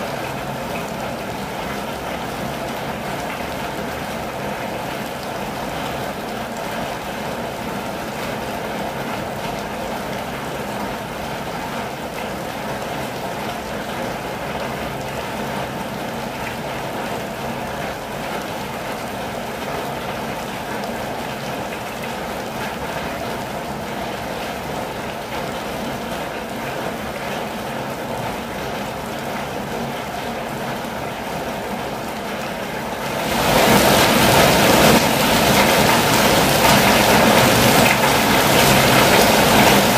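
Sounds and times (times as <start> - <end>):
rain pattering on vehicle roof: 0.0 - 39.9.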